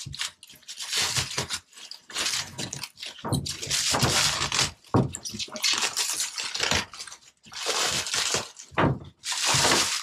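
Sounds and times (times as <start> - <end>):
plastic film peeling: 0.0 - 10.0.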